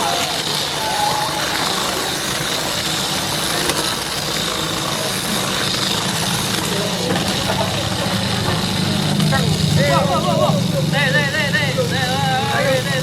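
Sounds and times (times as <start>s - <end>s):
toy car electric motors whirring: 0.0s - 13.0s.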